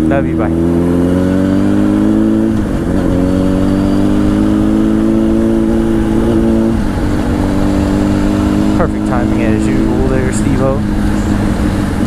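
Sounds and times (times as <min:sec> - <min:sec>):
low wind rumble: 0:00.0 - 0:12.0
motorcycle engine accelerating: 0:00.0 - 0:12.0.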